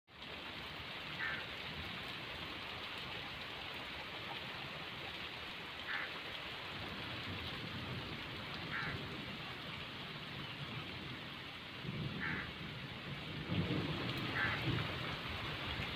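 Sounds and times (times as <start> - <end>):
heavy rain splashing on road: 0.1 - 15.9.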